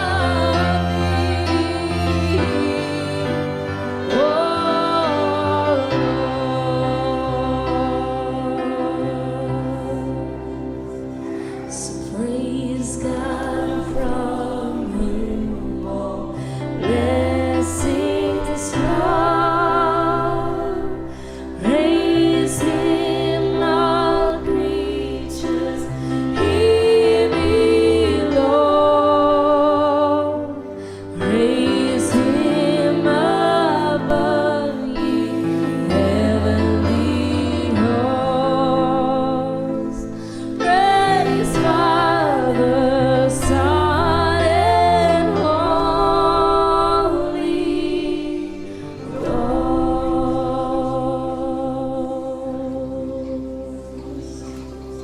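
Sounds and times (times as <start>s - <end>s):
person singing with vibrato: 0.0s - 54.9s
sustained backing chords: 0.0s - 55.0s.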